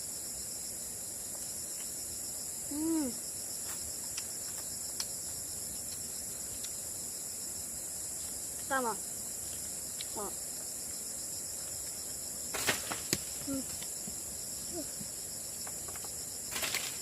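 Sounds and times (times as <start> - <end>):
insect chorus trilling: 0.0 - 17.0.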